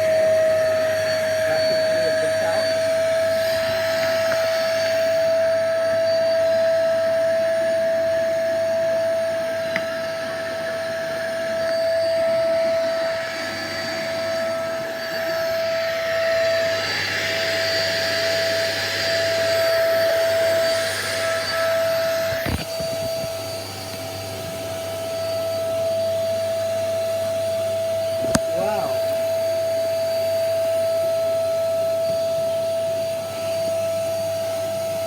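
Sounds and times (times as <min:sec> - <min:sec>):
vacuum cleaner whine and rushing air: 0:00.0 - 0:35.0.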